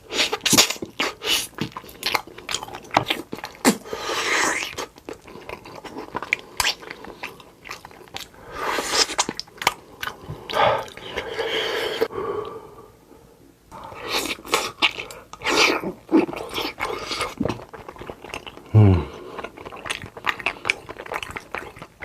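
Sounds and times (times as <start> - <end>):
chewing and crunchy bites: 0.1 - 11.4, 13.9 - 22.0.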